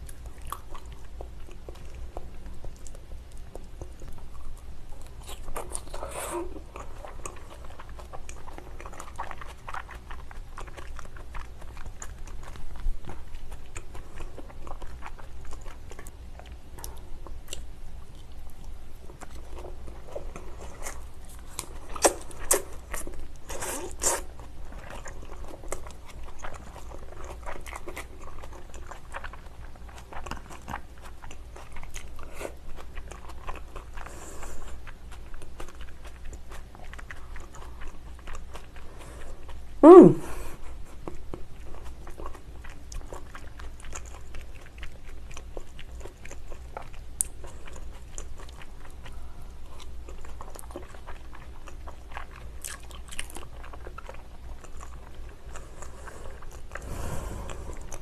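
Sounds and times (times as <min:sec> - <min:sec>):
person chewing with mouth clicks: 0:00.0 - 0:58.0.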